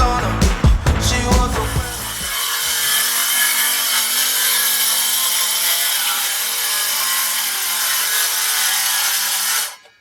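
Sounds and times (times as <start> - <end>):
power saw cutting wood: 0.0 - 10.0.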